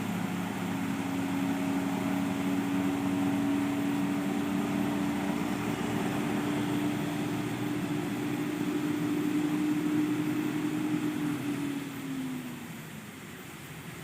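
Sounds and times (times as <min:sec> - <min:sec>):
diesel truck engine droning: 0:00.0 - 0:13.5.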